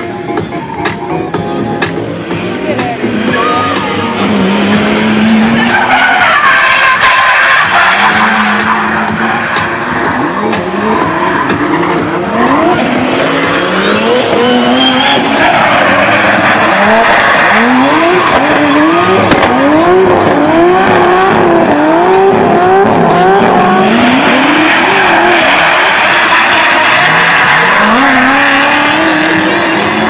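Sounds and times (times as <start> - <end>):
car engine revving: 0.0 - 30.0
tyre squeal: 3.3 - 30.0.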